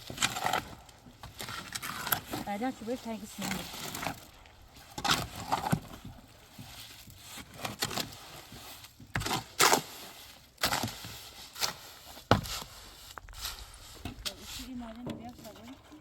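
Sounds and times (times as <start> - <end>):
tool scraping wet mortar: 0.0 - 16.0.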